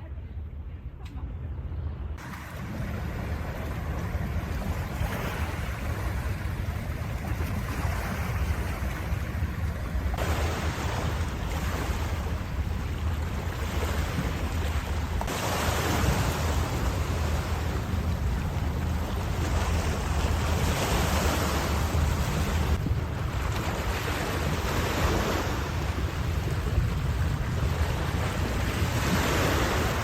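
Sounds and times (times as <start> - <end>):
wind rumble on microphone: 0.0 - 30.0
sea waves washing onto shore: 2.2 - 30.0.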